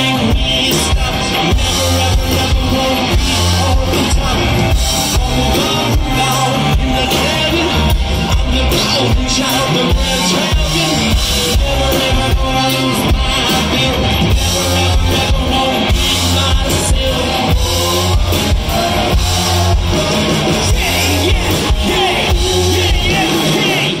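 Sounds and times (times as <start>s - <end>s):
drum kit: 0.0s - 24.0s
electric guitar: 0.0s - 24.0s
man singing into a microphone: 0.0s - 24.0s.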